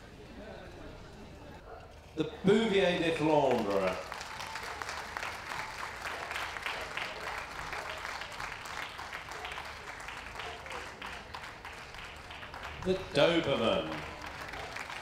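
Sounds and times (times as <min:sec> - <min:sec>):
crowd applauding: 0:02.6 - 0:15.0.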